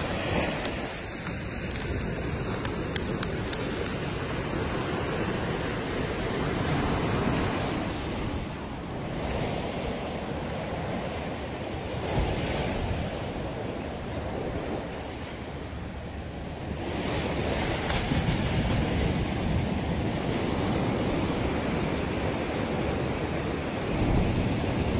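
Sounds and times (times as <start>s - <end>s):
waves breaking on sandy beach: 0.0s - 24.9s
wind noise on microphone: 0.0s - 24.9s.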